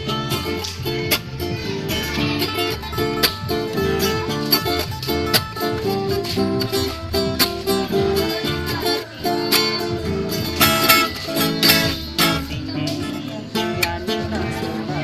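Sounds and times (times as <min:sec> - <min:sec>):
plucked guitar run: 0:00.0 - 0:15.0.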